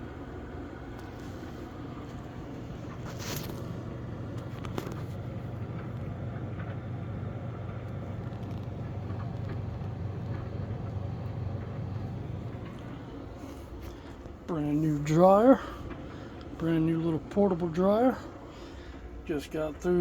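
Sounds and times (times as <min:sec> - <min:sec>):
clothes dryer humming: 0:00.0 - 0:20.0.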